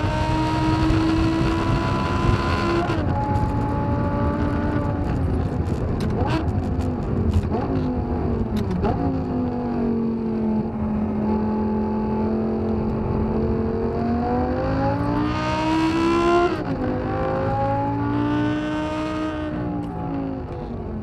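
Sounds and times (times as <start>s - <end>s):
sports car engine revving: 0.0s - 20.7s.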